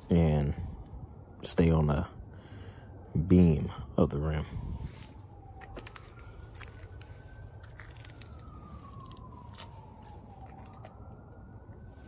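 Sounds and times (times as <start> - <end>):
faint siren wailing: 0.0 - 12.0.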